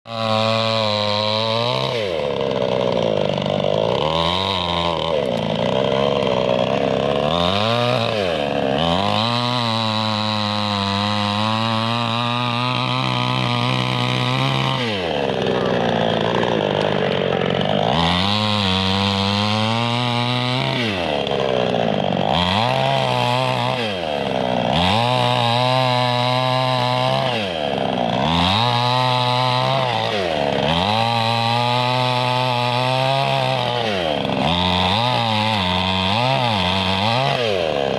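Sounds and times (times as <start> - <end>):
chainsaw engine revving: 0.1 - 37.9.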